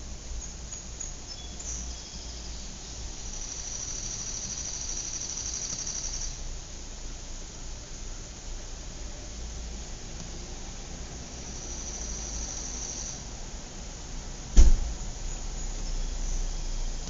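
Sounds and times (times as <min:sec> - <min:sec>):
low background hum and hiss: 0:00.0 - 0:17.0.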